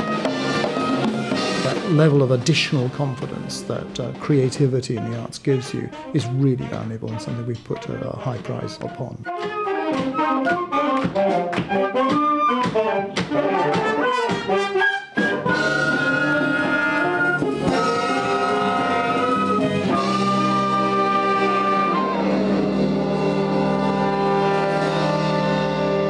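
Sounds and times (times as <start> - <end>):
wind band music: 0.0 - 26.0.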